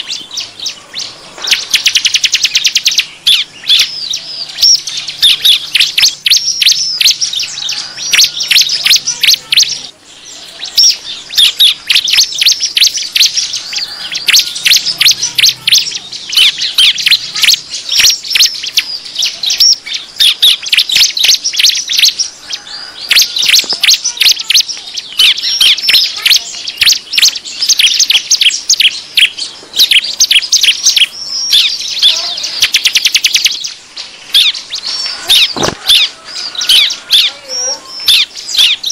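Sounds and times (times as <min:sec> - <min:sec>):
birds chattering high chirps: 0:00.0 - 0:38.9.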